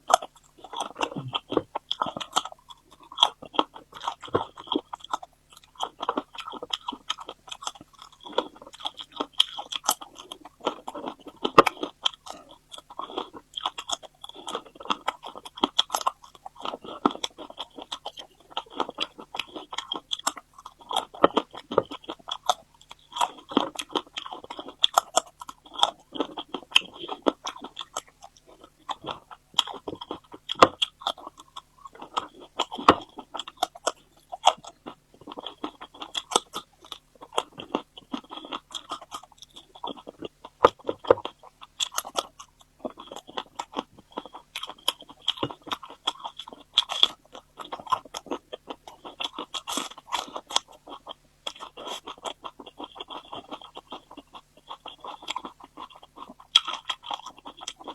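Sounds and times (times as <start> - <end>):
person chewing crunchy food: 0.0 - 57.9.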